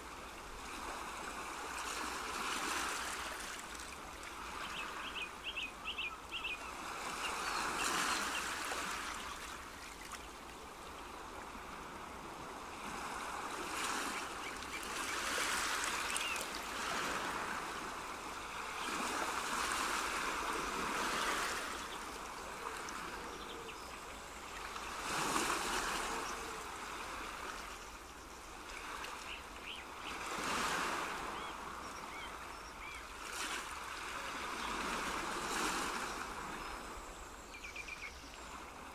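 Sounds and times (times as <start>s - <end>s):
rushing water like waves: 0.0s - 38.9s.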